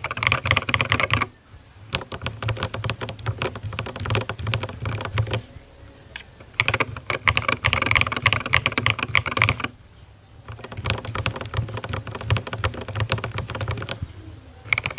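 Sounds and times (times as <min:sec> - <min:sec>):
mechanical keyboard typing: 0:00.0 - 0:01.3, 0:01.9 - 0:05.5, 0:06.2 - 0:09.8, 0:10.4 - 0:14.9.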